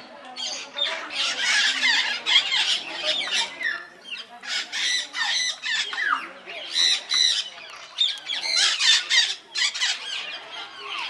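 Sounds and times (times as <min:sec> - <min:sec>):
parrots squawking and screeching: 0:00.4 - 0:11.0.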